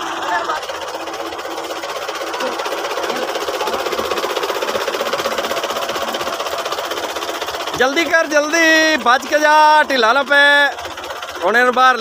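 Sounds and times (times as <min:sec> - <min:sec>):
tractor diesel engine clattering: 0:00.0 - 0:12.0.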